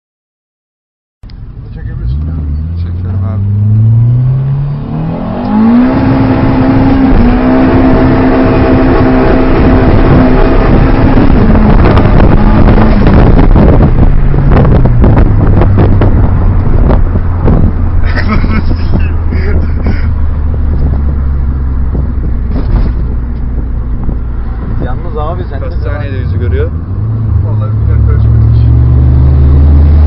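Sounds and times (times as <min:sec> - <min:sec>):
car engine revving: 0:01.3 - 0:30.0.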